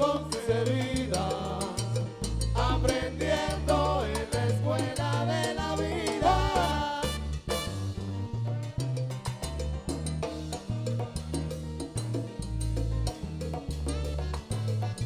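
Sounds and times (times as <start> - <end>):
bass line: 0.0 - 15.0
salsa band instrumental: 0.0 - 15.0.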